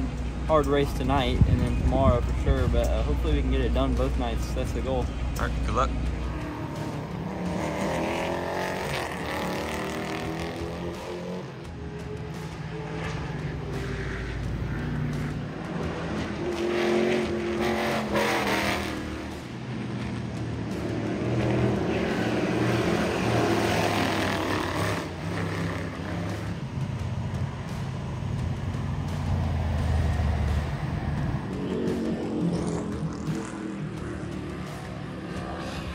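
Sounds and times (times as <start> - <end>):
race car engines passing: 0.0 - 35.9.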